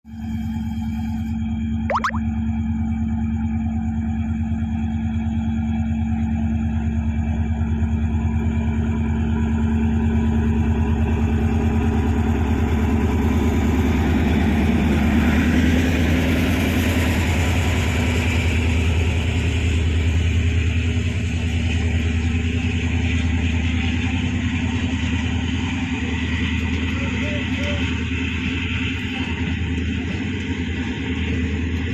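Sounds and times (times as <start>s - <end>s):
diesel train engine throbbing: 3.2s - 31.9s.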